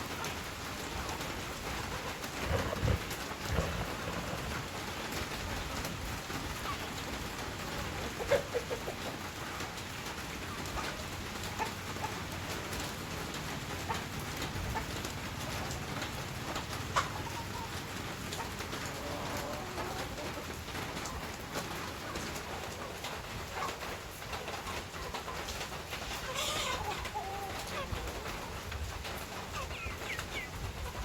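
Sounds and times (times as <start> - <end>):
chickens clucking: 0.0 - 31.0
rain-like hiss: 0.0 - 31.0.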